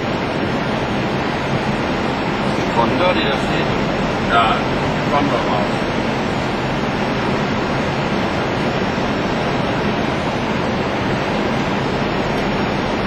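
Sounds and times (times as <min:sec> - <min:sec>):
aircraft engine noise: 0:00.0 - 0:13.0
airflow over aircraft nose: 0:00.0 - 0:13.0.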